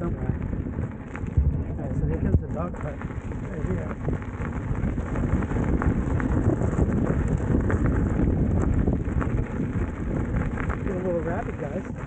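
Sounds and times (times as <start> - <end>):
faint ticks and crackles: 0.0 - 12.0
wind buffeting microphone: 0.0 - 12.0.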